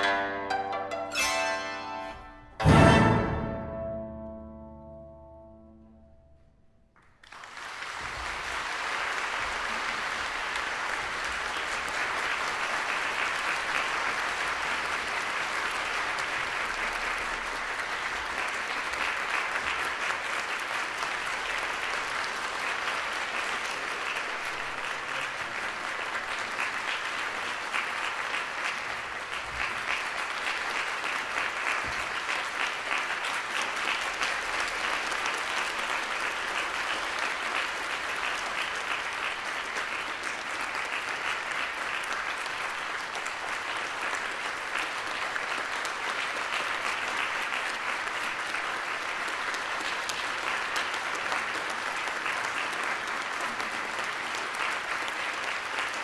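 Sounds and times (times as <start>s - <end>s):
audience applauding: 7.0s - 56.0s.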